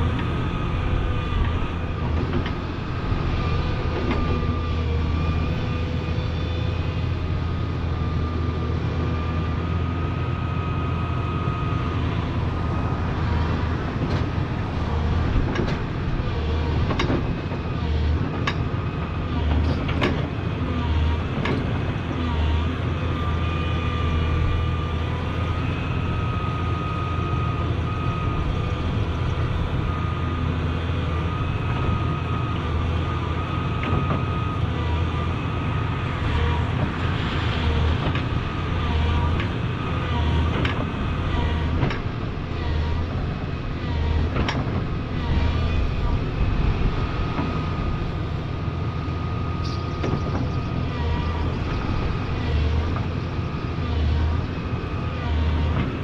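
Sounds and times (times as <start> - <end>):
excavator diesel engine running: 0.0 - 56.0
hydraulic whine wavering in pitch: 0.0 - 56.0.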